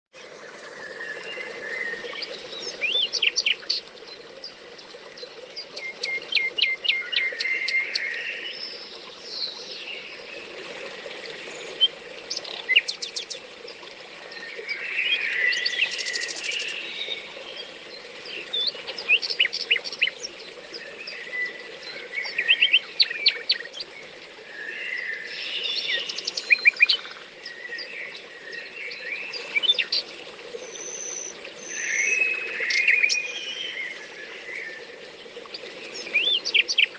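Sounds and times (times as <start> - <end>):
brook water flowing: 0.1 - 36.9
songbirds singing and chirping: 0.2 - 36.9.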